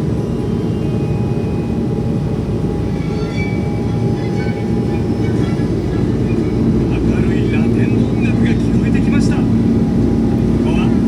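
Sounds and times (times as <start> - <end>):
faint steady hum: 0.0 - 11.0
vehicle engine rumbling: 0.0 - 11.0.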